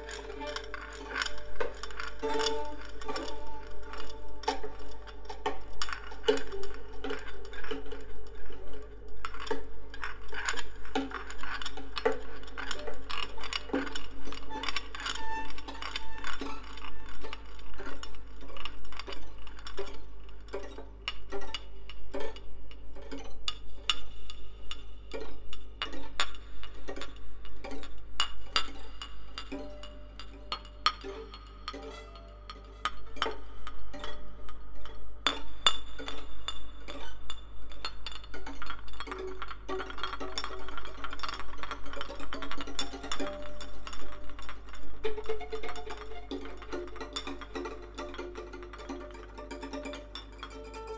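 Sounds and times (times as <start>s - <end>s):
clicky rhythmic background music: 0.0s - 50.9s.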